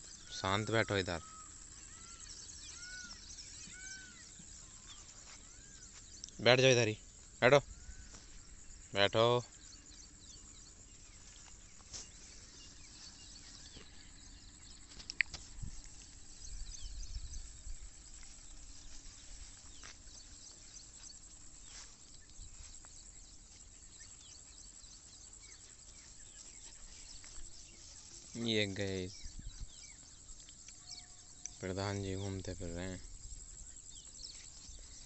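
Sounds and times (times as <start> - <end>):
faint high chirping: 0.0 - 35.0.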